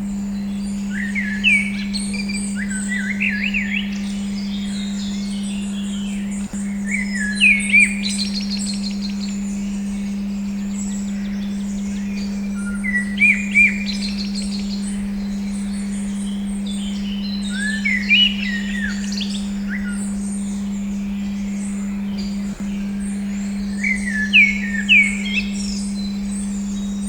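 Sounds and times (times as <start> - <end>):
steady low tone: 0.0 - 27.0
birds chirping and whistling: 0.1 - 27.0.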